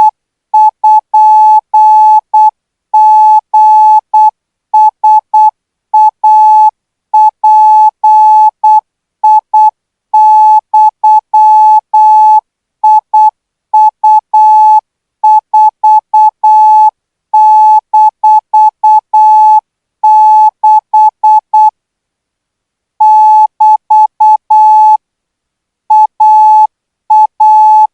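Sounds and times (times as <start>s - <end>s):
morse code beeps: 0.0s - 21.7s, 23.0s - 25.0s, 25.9s - 27.9s.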